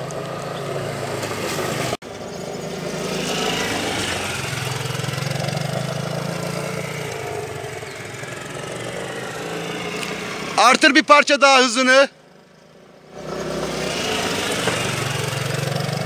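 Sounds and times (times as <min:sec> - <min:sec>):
scooter engine humming: 0:00.0 - 0:11.0, 0:12.1 - 0:16.0.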